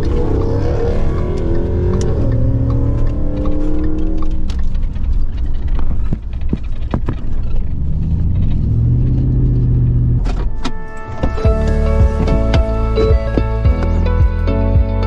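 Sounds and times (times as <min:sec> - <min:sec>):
pickup truck driving: 0:00.0 - 0:15.0.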